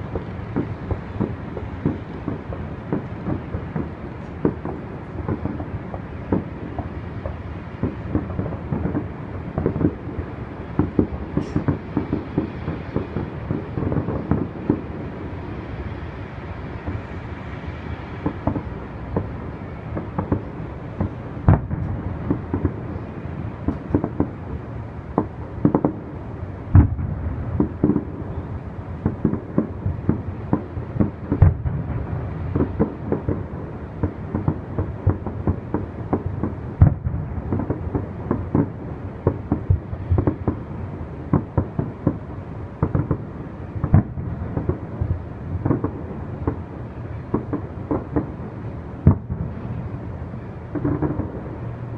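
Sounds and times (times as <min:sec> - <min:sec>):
fireworks booming and popping: 0:00.0 - 0:51.9.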